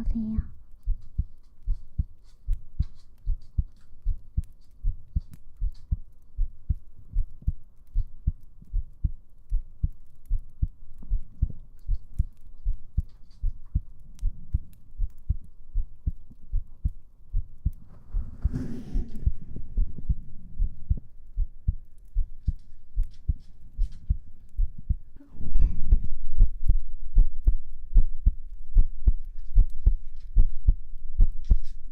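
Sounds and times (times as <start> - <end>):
heartbeat thumps: 0.9 - 18.4, 19.0 - 31.6.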